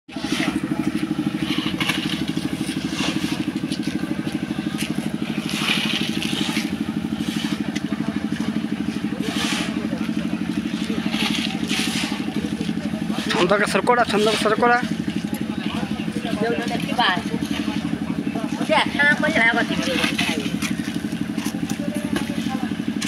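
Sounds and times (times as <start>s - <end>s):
small diesel engine chugging: 0.1s - 23.0s
wet concrete scraping and crunching: 0.1s - 23.0s.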